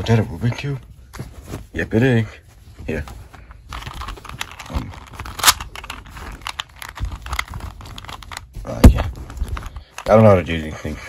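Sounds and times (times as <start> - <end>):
rustling and scraping of toys: 0.0 - 11.0.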